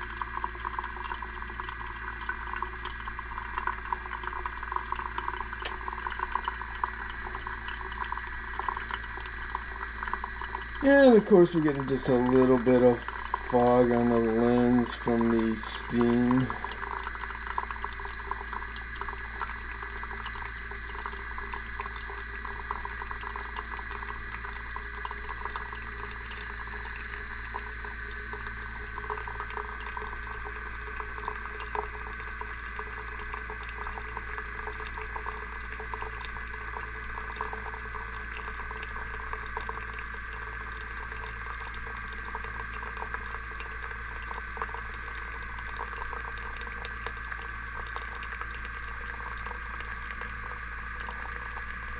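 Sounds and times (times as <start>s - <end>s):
coffee machine pump running: 0.0s - 51.9s
low steady hum: 0.0s - 51.9s.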